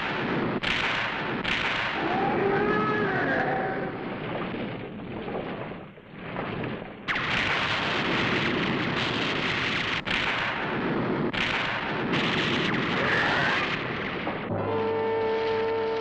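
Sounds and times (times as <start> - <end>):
explosion blast with heavy roar: 0.0 - 16.0
rushing rumble: 0.0 - 16.0.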